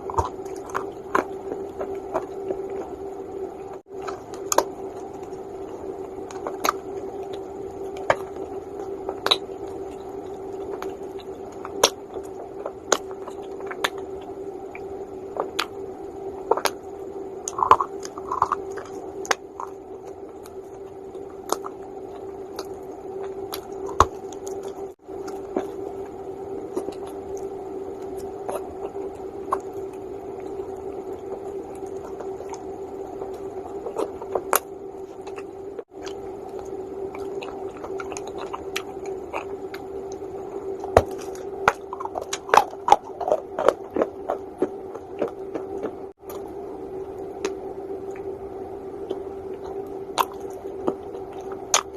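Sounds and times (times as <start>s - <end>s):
crunchy chewing: 0.0s - 48.3s, 49.0s - 51.9s
steady hum: 0.0s - 51.9s.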